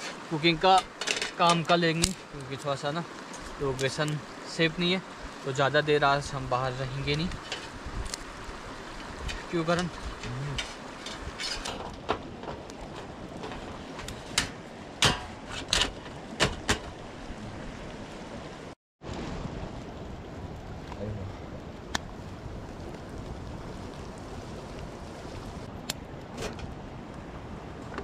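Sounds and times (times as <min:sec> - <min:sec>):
river flowing: 0:00.0 - 0:25.8.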